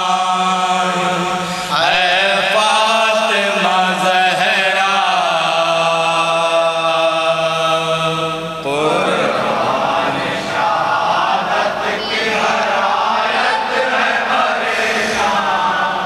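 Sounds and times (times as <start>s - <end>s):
men chanting a lament: 0.0s - 16.0s.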